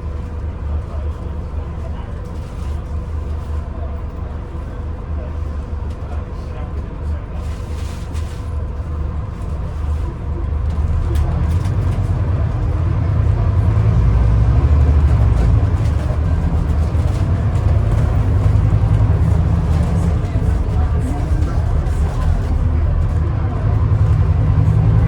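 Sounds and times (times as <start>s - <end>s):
bus diesel engine rumble: 0.0s - 25.0s.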